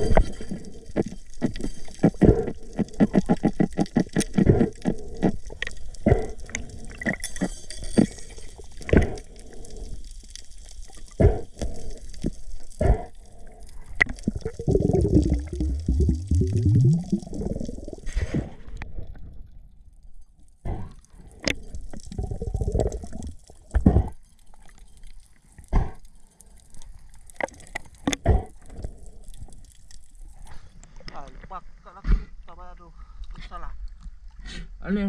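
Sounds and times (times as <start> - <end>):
water sloshing and gurgling: 0.0 - 32.4.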